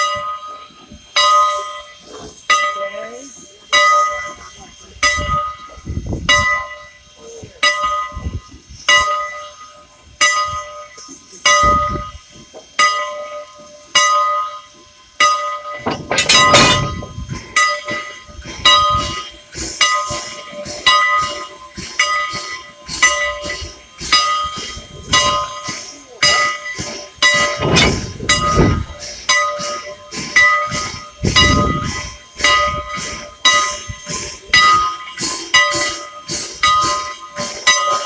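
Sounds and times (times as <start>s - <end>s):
steam locomotive bell ringing: 0.0s - 38.0s.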